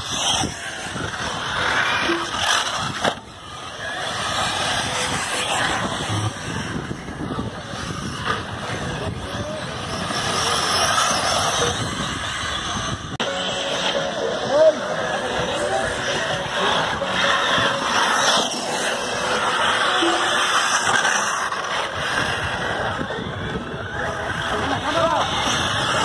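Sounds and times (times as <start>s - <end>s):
radio-controlled car motors: 0.0s - 26.0s
tyres on dirt: 0.0s - 26.0s.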